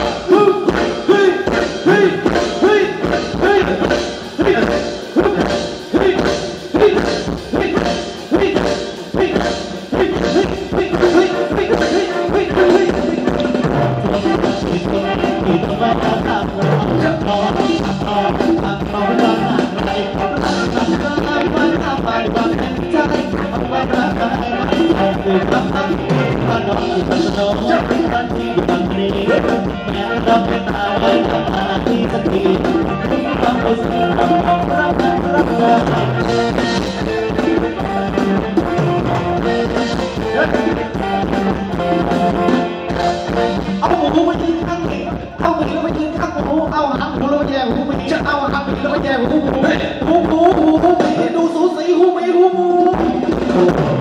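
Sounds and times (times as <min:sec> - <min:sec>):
steady drum beat: 0:00.0 - 0:51.4, 0:52.8 - 0:54.0
live band dance music: 0:00.0 - 0:54.0
person singing: 0:00.0 - 0:54.0.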